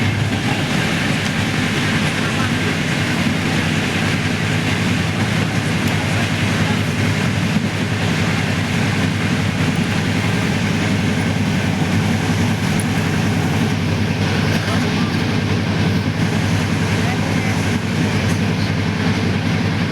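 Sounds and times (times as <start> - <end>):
train carriage rumbling on rails: 0.0 - 19.9.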